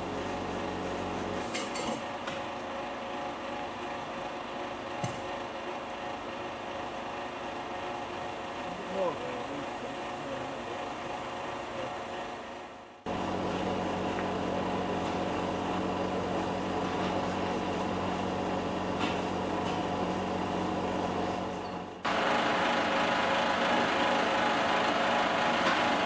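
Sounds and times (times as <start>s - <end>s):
noisy machine running: 0.0s - 26.0s.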